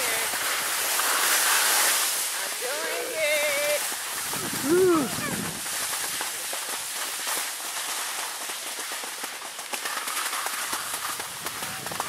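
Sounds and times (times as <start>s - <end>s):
skis sliding over packed snow: 0.0s - 12.0s.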